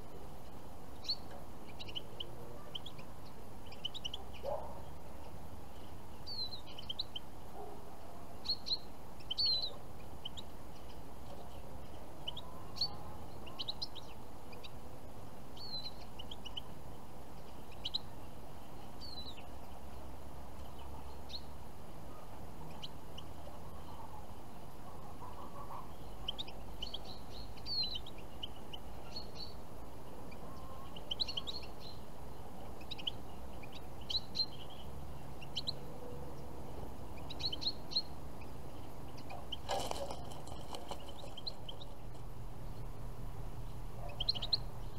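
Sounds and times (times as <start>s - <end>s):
goldfinches chirping: 0.0s - 7.4s, 8.4s - 24.3s, 24.9s - 44.9s.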